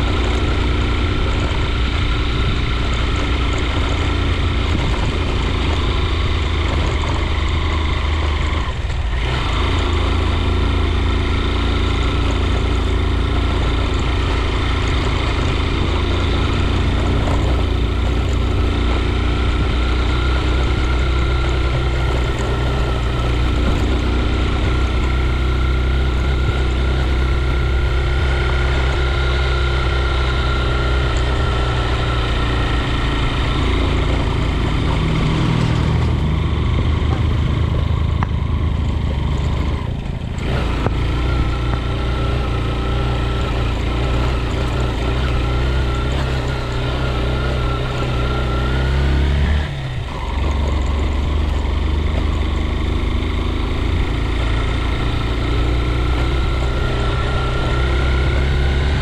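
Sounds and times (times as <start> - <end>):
low road rumble: 0.0 - 59.0
vehicle engine running: 0.0 - 59.0.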